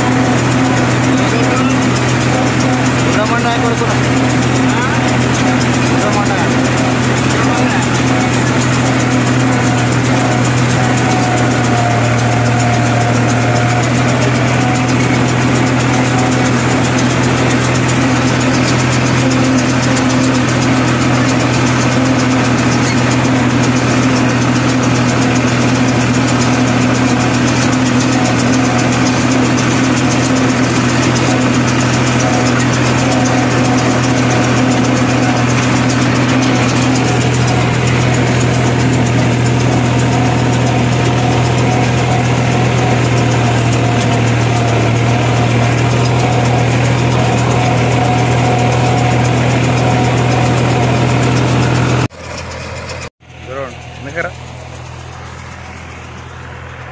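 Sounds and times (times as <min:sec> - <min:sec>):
baler machinery turning: 0:00.0 - 0:56.9
tractor diesel engine running: 0:00.0 - 0:56.9.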